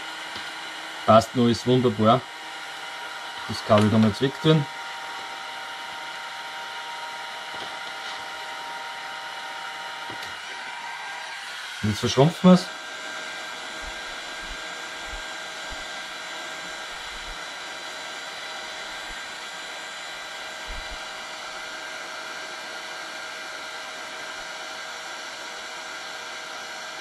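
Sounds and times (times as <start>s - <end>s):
hot air gun blowing: 0.0s - 25.8s.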